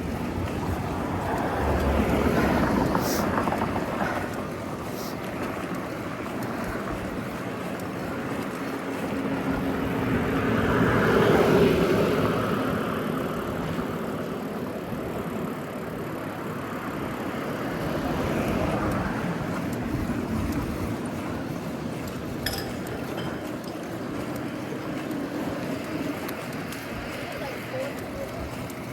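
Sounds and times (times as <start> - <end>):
road traffic passing: 0.0 - 28.9.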